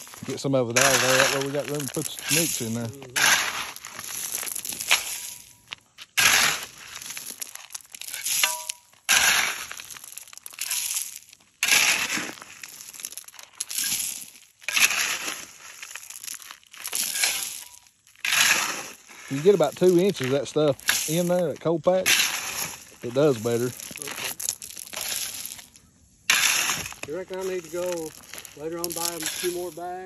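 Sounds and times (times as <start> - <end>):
tool scraping gravel: 0.0 - 30.0.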